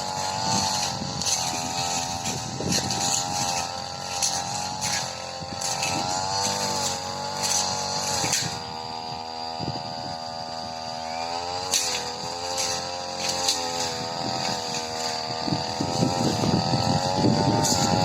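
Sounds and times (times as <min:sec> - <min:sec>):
blade swishing through grass: 0:00.0 - 0:10.0, 0:10.8 - 0:18.0
brush cutter engine running: 0:00.0 - 0:18.0.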